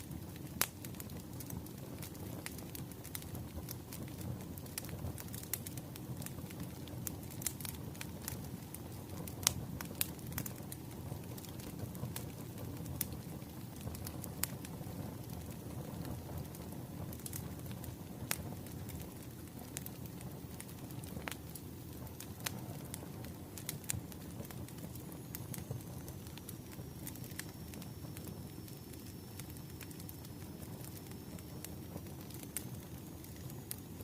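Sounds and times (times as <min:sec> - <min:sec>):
fire rumbling: 0:00.0 - 0:34.0
wood crackling and popping: 0:00.0 - 0:34.0.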